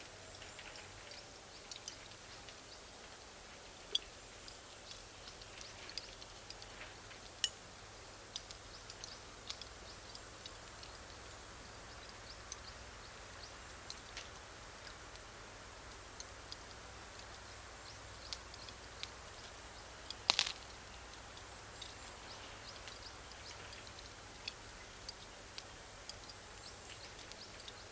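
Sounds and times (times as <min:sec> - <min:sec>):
fire crackling and popping: 0:00.0 - 0:27.9.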